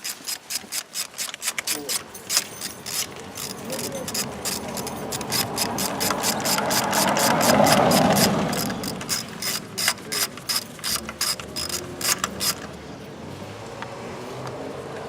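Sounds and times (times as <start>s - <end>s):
rapid mechanical clicking: 0.0s - 12.8s.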